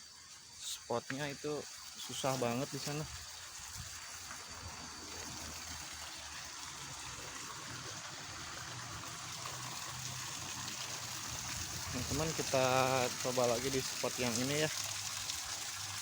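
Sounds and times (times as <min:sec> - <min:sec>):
water rushing in ditch: 0:00.0 - 0:16.0.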